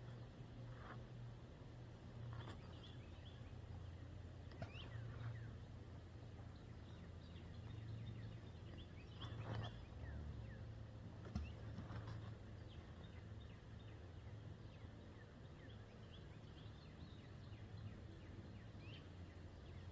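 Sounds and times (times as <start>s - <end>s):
low steady hum: 0.0s - 19.9s
small birds chirping: 2.2s - 19.9s.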